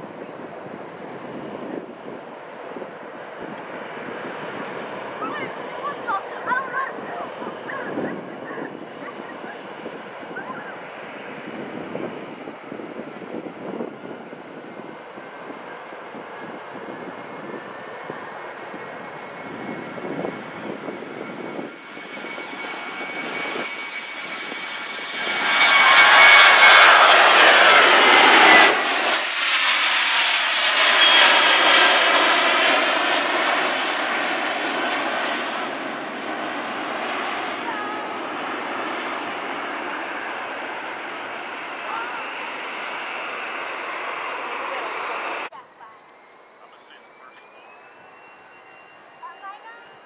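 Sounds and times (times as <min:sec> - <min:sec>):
jet plane taking off: 0:00.0 - 0:45.6, 0:46.2 - 0:50.0.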